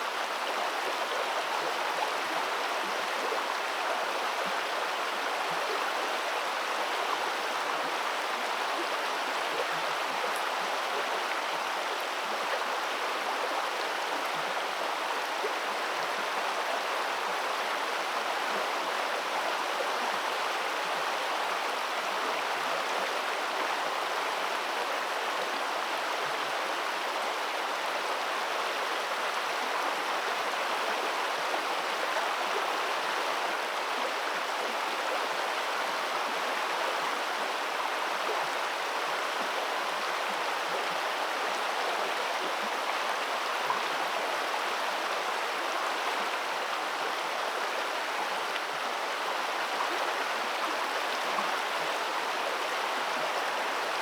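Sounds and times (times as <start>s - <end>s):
flowing river water: 0.0s - 54.0s.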